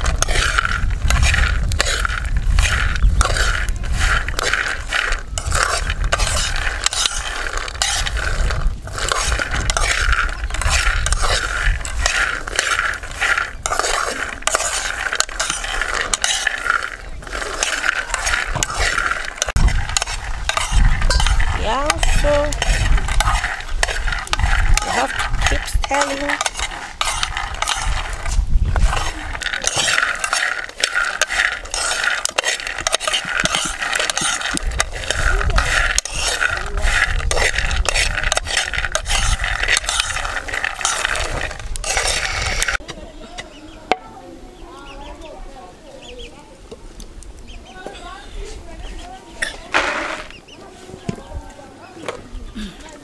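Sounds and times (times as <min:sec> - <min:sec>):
nuts rattling in a metal pan: 0:00.0 - 0:42.8, 0:49.4 - 0:50.4.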